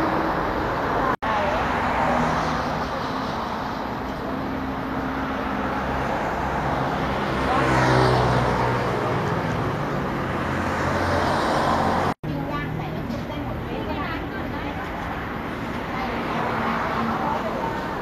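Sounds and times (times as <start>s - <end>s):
vehicle passing: 0.0s - 18.0s.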